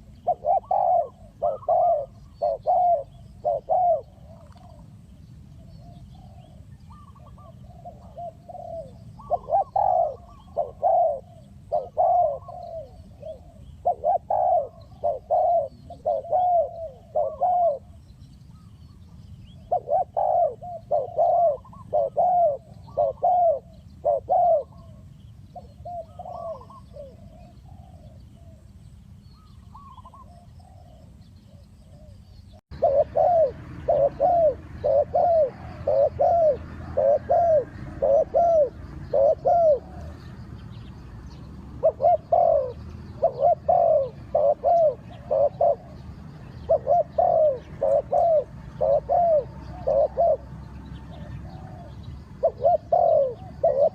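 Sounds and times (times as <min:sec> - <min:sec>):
dove cooing: 0:00.0 - 0:40.6, 0:41.3 - 0:53.9.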